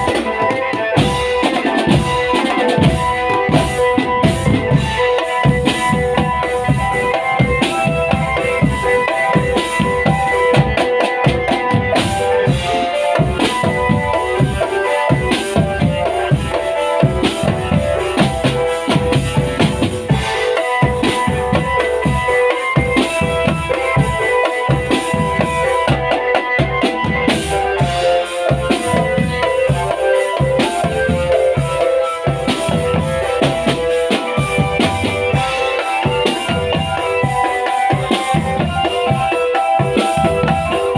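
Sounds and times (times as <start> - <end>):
bass and snare drums beating: 0.0 - 40.9
melody of held pitched notes: 0.0 - 40.9.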